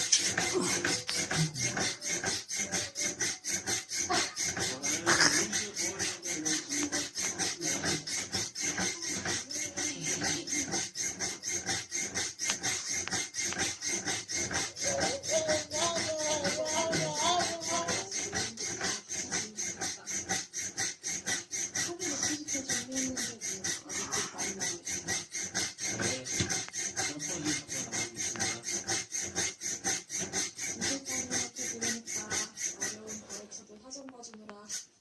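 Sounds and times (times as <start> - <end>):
metal springs squeaking rhythmically: 0.0 - 34.9.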